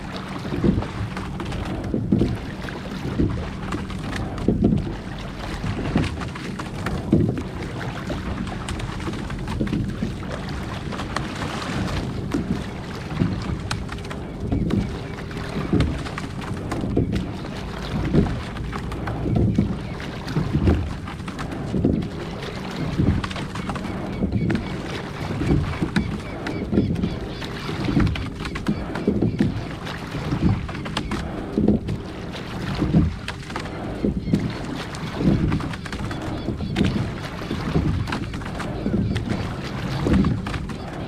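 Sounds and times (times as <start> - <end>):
oar strokes splashing: 0.0 - 41.0.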